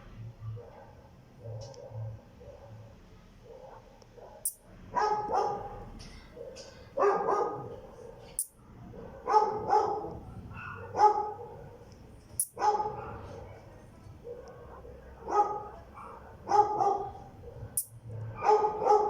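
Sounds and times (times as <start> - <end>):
dog barking: 0.5 - 19.0.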